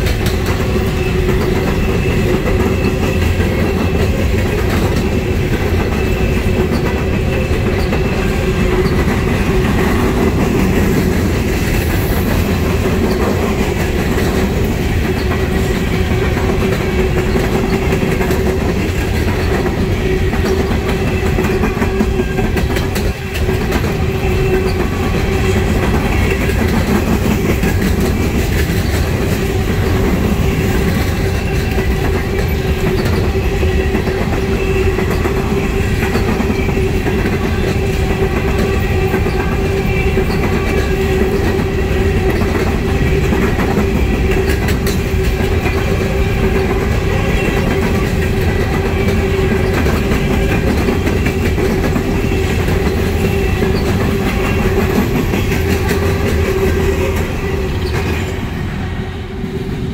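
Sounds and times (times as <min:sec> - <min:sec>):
steel wheels clattering over rail joints: 0:00.0 - 0:58.7
rumble of rail cars: 0:00.0 - 0:59.9.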